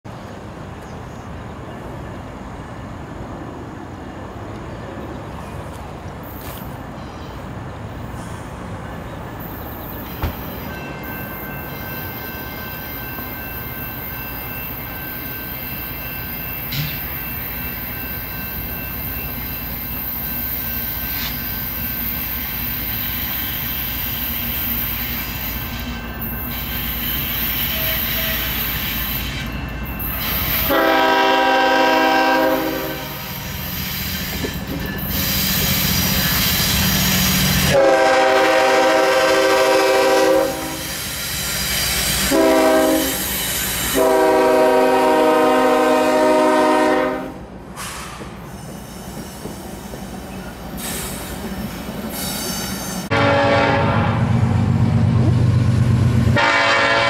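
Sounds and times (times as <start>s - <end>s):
diesel locomotives rumbling: 0.1s - 57.0s.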